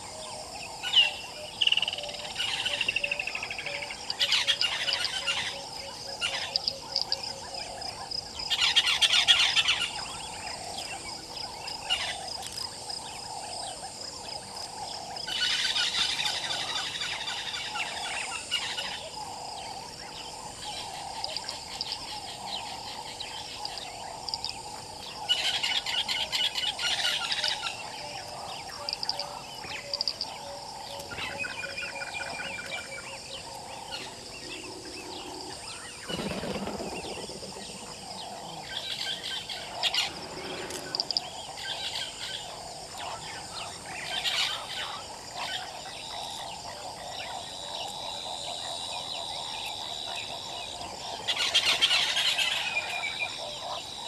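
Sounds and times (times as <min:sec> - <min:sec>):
birds trilling: 0:00.0 - 0:54.0
high insect drone: 0:00.0 - 0:54.0.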